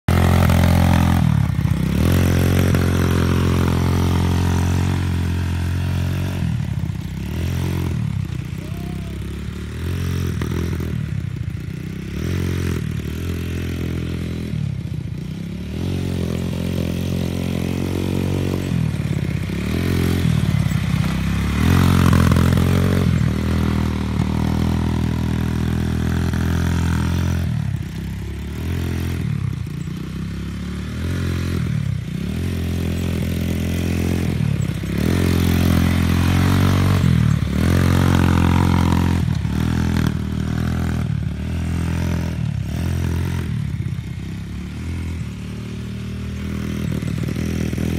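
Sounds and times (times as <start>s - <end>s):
quad bike engine revving: 0.0s - 47.9s.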